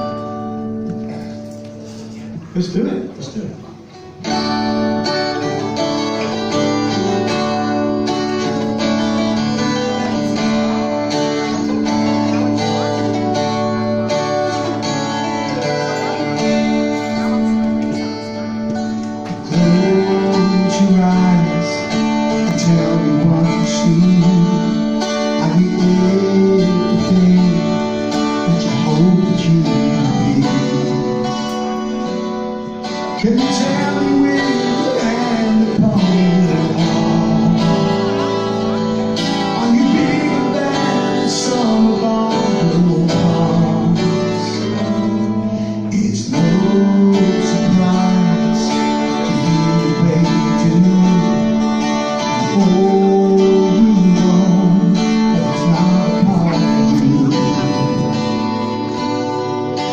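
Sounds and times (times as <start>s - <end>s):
acoustic guitars strumming: 0.0s - 59.9s.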